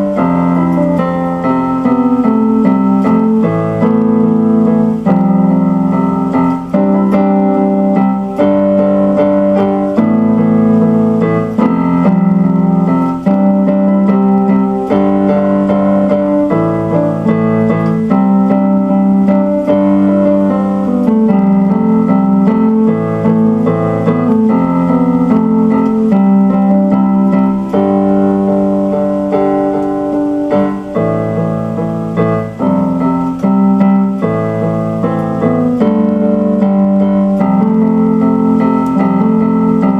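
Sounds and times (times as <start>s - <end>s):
electric piano music: 0.0s - 39.9s.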